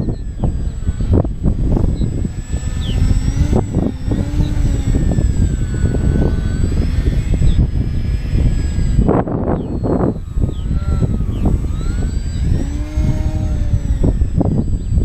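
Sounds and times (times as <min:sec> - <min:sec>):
model airplane electric motor whine: 0:00.0 - 0:15.0
wind rumble on microphone: 0:00.0 - 0:15.0.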